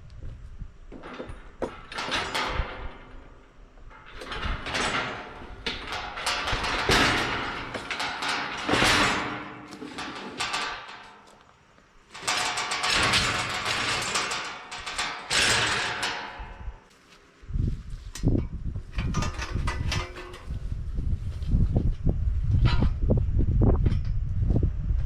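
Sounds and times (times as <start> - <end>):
steel panels scraping and rattling: 0.8 - 21.7, 22.4 - 24.3.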